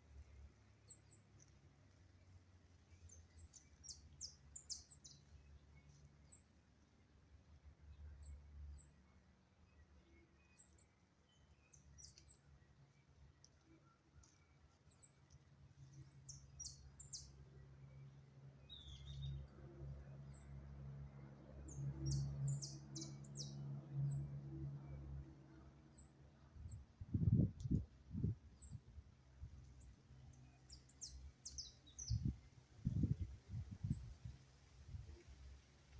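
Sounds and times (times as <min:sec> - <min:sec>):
small birds chirping: 0:00.0 - 0:07.1, 0:07.8 - 0:20.6, 0:21.6 - 0:24.3, 0:25.8 - 0:35.6.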